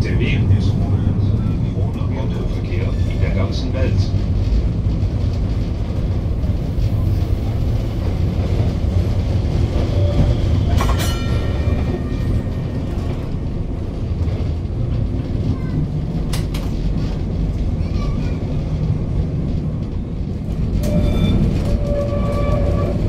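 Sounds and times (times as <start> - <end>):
tram wheels rumbling on rails: 0.0 - 23.0.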